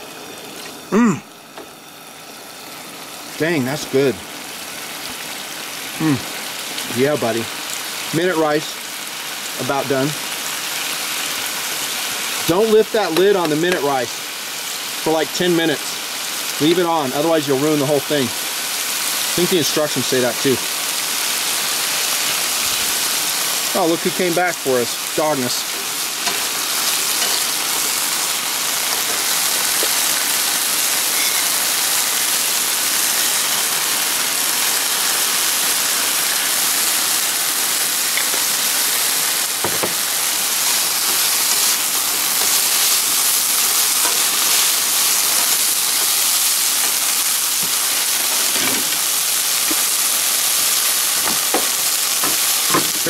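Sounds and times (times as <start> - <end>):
chicken sizzling in a frying pan: 0.0 - 53.0.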